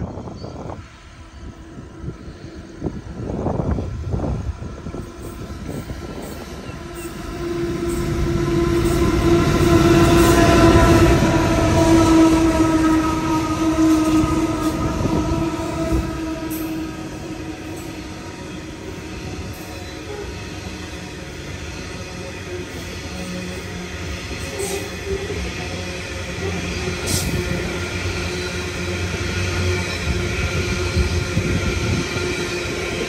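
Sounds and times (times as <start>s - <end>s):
diesel locomotives droning: 0.0s - 33.0s.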